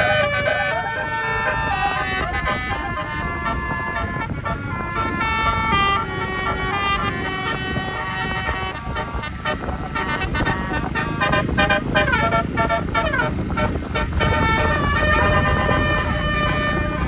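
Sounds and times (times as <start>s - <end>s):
bus engine rumble: 0.0s - 17.0s
multi-trumpet air horn tune: 0.0s - 17.0s.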